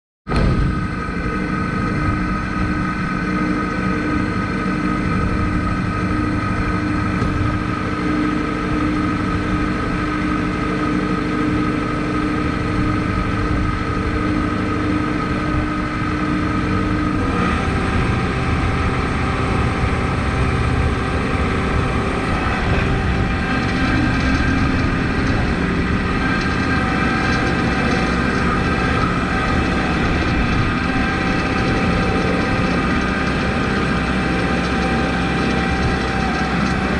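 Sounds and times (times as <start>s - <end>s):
tractor diesel engine running: 0.3s - 36.9s.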